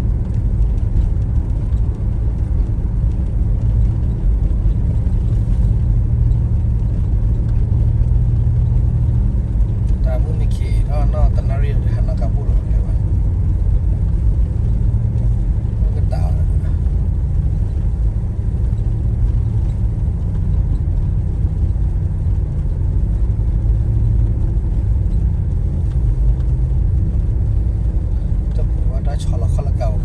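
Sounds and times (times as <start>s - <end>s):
car rumbling in motion: 0.0s - 30.0s.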